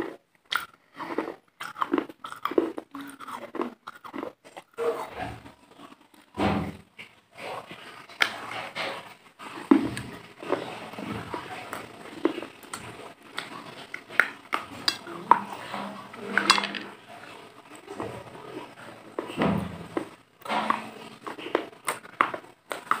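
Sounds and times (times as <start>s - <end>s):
crunchy food chewing: 0.0s - 6.4s, 7.0s - 23.0s.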